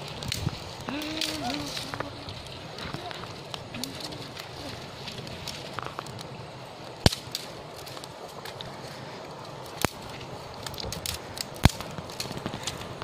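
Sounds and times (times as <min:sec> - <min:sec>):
dry twigs snapping: 0:00.0 - 0:13.0
stick fire crackling: 0:00.0 - 0:13.0.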